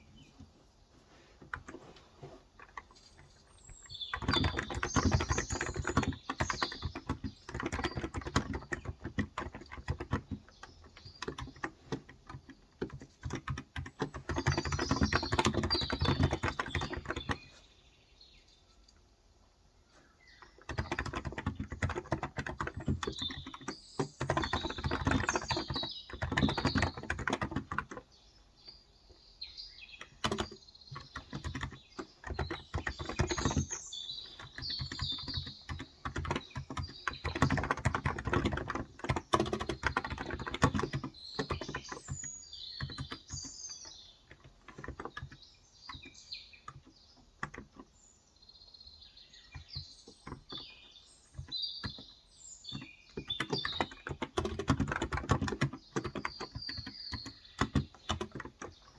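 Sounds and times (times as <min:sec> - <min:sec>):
small birds chirping: 0:00.0 - 0:58.9
keyboard typing: 0:01.4 - 0:17.5, 0:20.5 - 0:28.1, 0:30.0 - 0:47.9, 0:51.3 - 0:52.1, 0:52.7 - 0:58.9.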